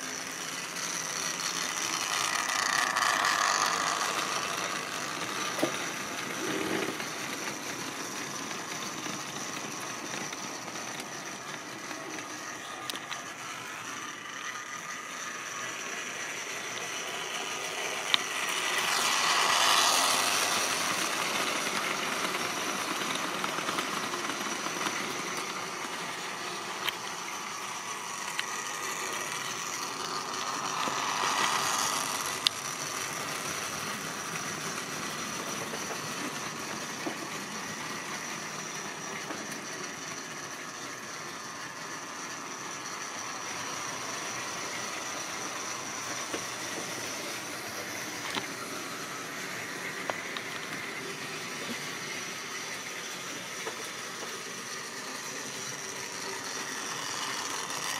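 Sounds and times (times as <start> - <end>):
model trains running on track: 0.0 - 57.9.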